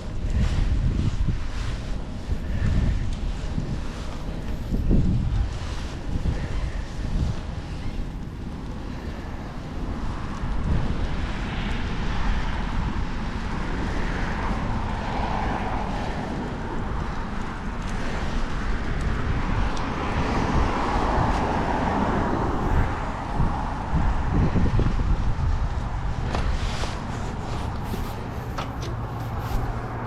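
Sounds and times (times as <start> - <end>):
vehicles passing: 0.0 - 30.0
wind buffeting microphone: 0.0 - 30.0.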